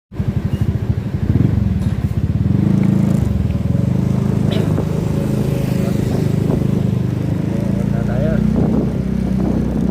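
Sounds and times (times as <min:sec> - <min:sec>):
vehicle engine running: 0:00.1 - 0:09.9.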